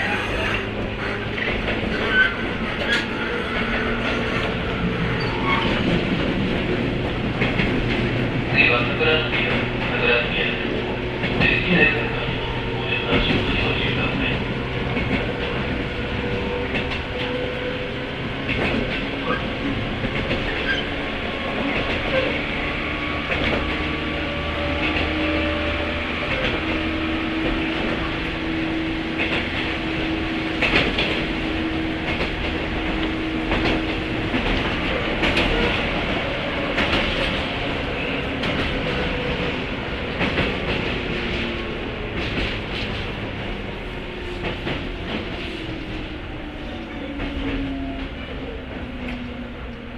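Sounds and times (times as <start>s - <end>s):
train wheels rolling on rails: 0.0s - 49.9s.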